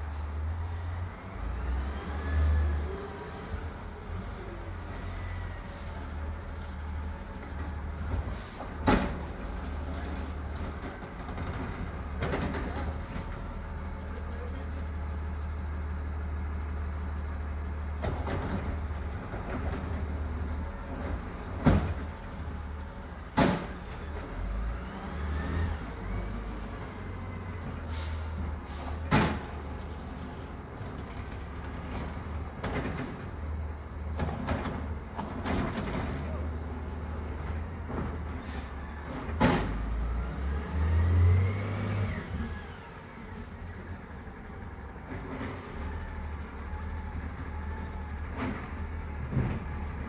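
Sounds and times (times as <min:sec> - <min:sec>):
motor vehicle rumble: 0:00.0 - 0:50.0.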